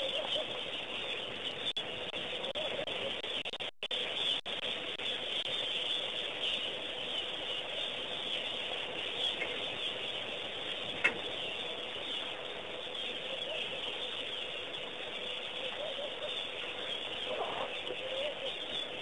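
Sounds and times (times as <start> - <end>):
birds and insects: 0.0 - 19.0
faint steady hum: 0.0 - 19.0.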